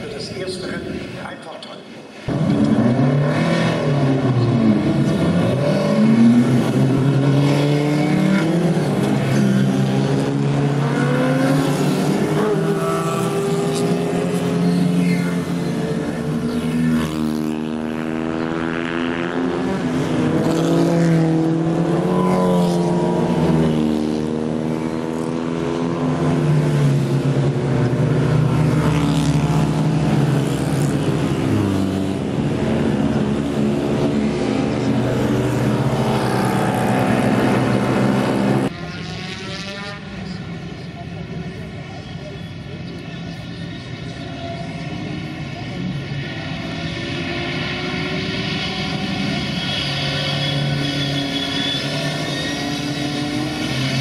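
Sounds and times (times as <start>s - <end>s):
racing cars accelerating past: 2.2s - 40.4s, 44.6s - 54.0s.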